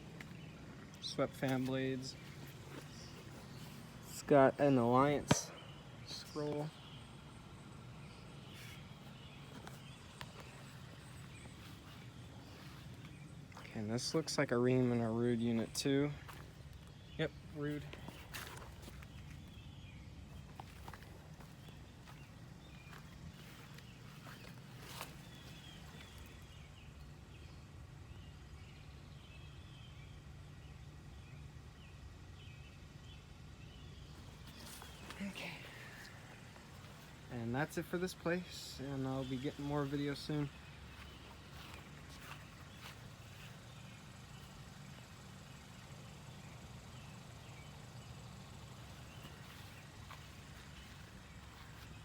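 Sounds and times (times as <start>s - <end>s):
low outdoor hum: 0.0s - 52.0s
small birds chirping: 0.0s - 52.0s.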